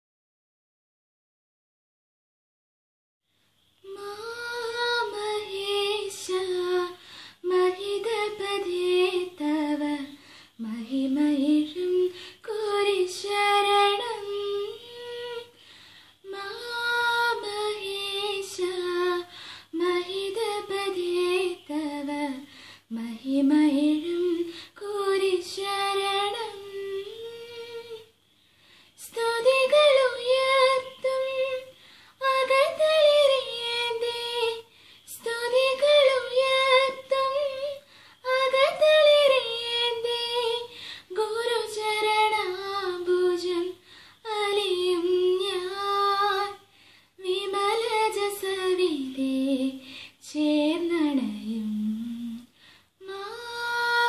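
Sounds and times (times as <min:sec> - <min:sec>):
woman singing unaccompanied: 0:03.8 - 0:15.6, 0:16.2 - 0:28.2, 0:29.0 - 0:54.0.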